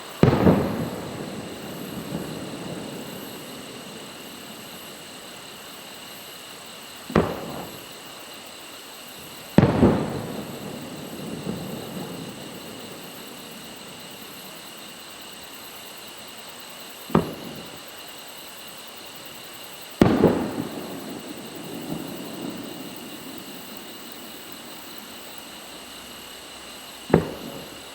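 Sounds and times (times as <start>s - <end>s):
fireworks cracking and banging: 0.0s - 15.4s, 17.0s - 17.9s, 19.8s - 25.7s, 26.9s - 27.9s.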